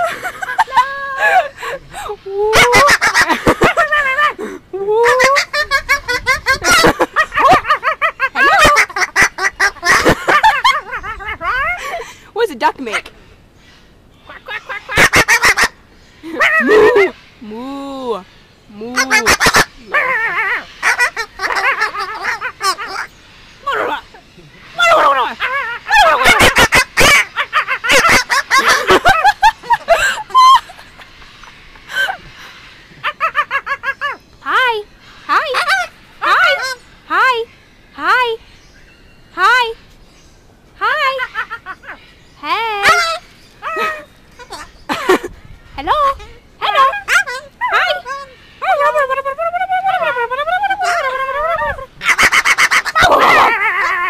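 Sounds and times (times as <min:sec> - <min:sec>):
cockatoo chattering: 0:00.0 - 0:13.1, 0:14.2 - 0:17.2, 0:18.7 - 0:37.4, 0:40.8 - 0:54.0.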